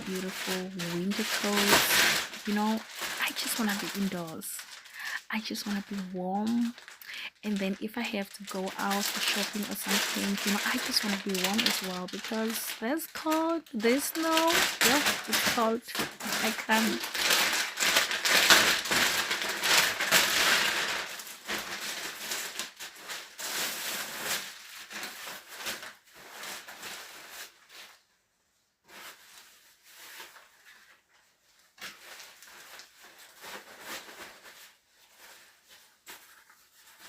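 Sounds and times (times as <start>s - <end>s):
material rustling and crinkling: 0.0s - 37.0s.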